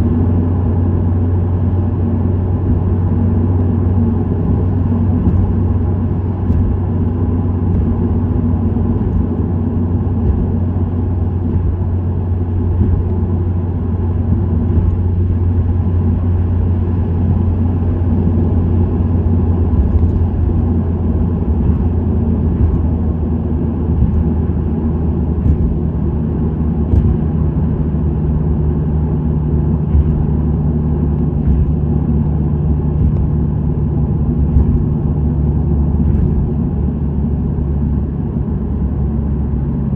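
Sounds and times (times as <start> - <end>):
car exhaust drone: 0.0 - 39.9
road noise: 0.0 - 39.9.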